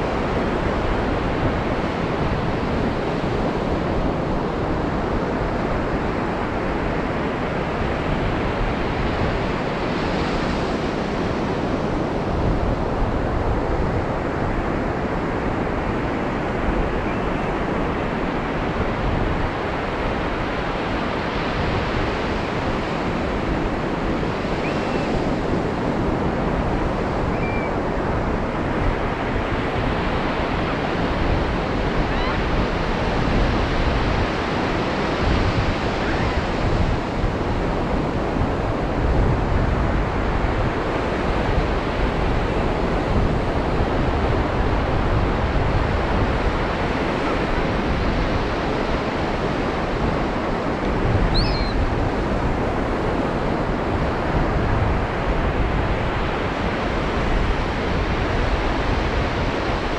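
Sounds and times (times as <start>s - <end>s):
ocean surf washing: 0.0s - 59.9s
wind rumble on microphone: 0.0s - 59.9s.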